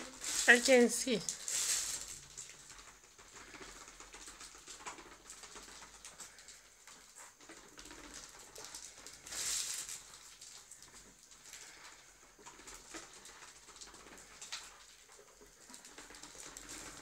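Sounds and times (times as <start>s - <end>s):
plastic tricycle rolling on tiles: 0.0s - 17.0s.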